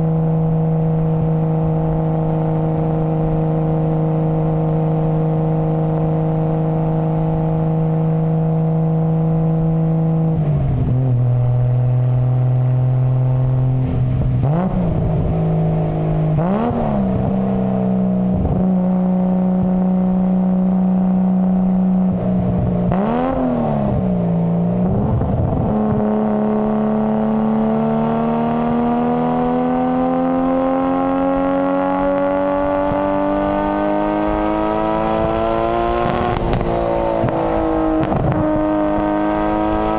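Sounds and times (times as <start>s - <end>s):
car engine running: 0.0s - 39.9s
engine throttle blips: 0.0s - 39.9s.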